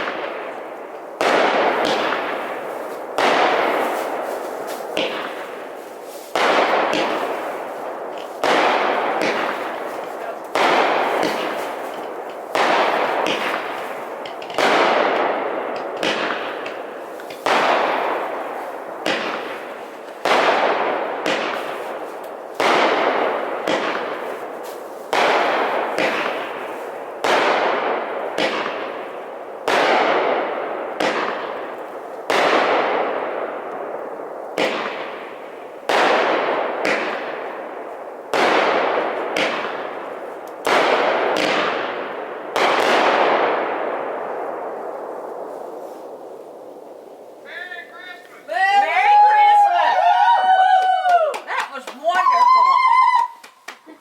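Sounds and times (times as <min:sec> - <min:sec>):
fireworks reports: 0:00.0 - 0:46.2, 0:47.3 - 0:54.0
fireworks crackle and echo: 0:00.0 - 0:54.0.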